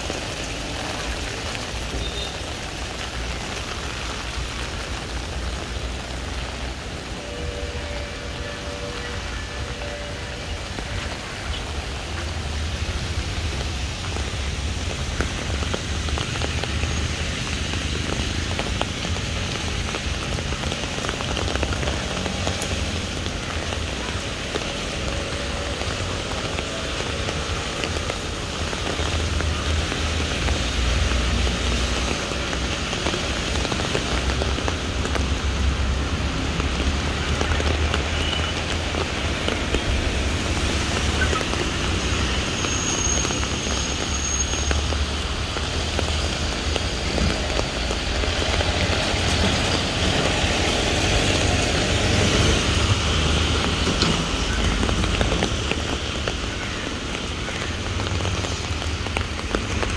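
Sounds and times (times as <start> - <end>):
rain falling on paving and leaves: 0.0 - 59.9.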